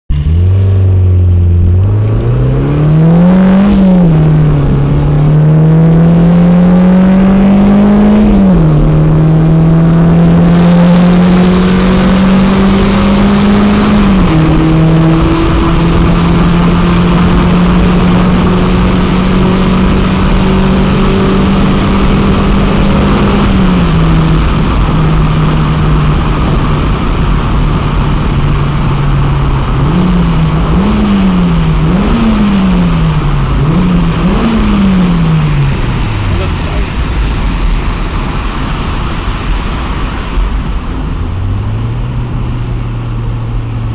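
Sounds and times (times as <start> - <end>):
car engine accelerating: 0.1 - 43.9.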